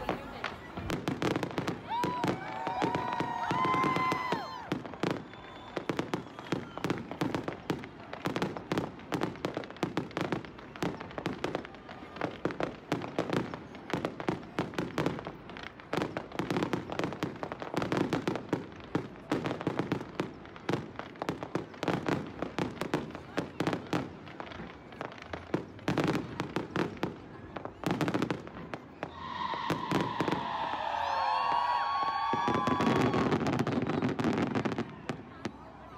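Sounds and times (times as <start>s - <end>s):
fireworks cracking and popping: 0.0s - 35.9s.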